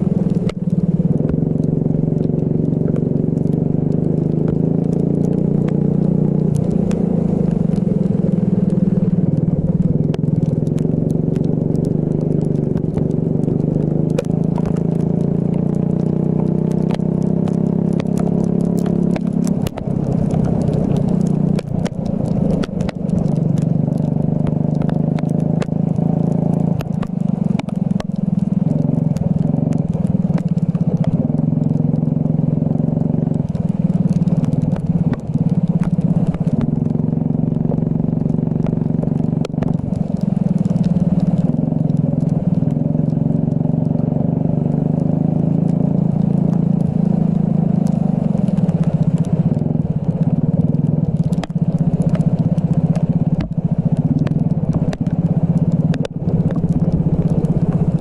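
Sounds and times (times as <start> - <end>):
sharp ticks: 0.0 - 58.0.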